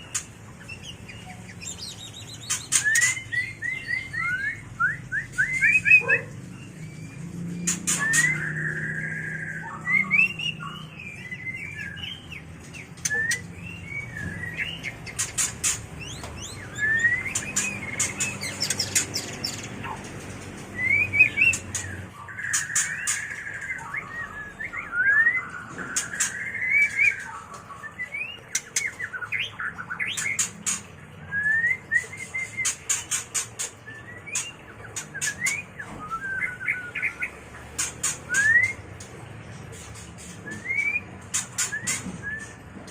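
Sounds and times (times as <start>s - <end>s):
bird singing whistles and chips: 0.0s - 20.0s, 20.6s - 39.0s, 40.2s - 42.9s.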